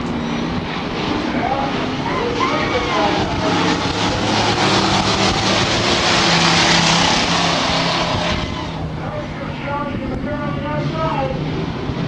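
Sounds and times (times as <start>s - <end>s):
race truck engines roaring: 0.0s - 12.0s.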